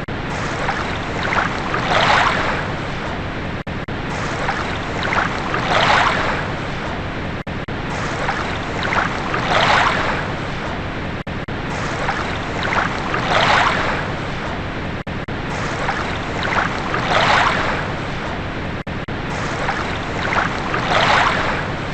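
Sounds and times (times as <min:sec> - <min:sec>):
waves washing in: 0:00.0 - 0:21.9.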